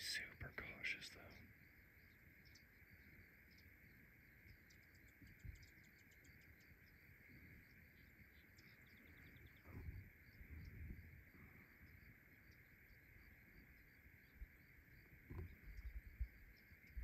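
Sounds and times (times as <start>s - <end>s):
insect ticking chirps: 0.0s - 17.0s
steady high insect hum: 0.0s - 17.0s.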